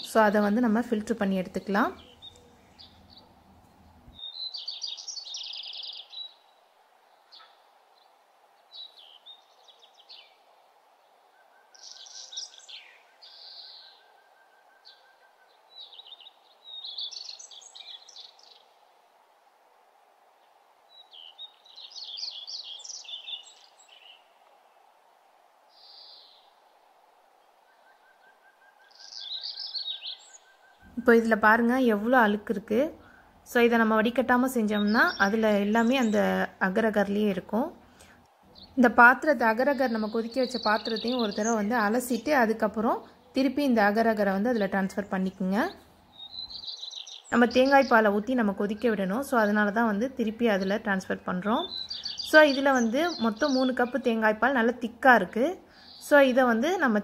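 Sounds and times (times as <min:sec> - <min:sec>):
small songbird chirping: 0:01.3 - 0:18.8, 0:20.4 - 0:24.9, 0:25.7 - 0:31.9, 0:33.7 - 0:37.4, 0:38.0 - 0:56.7.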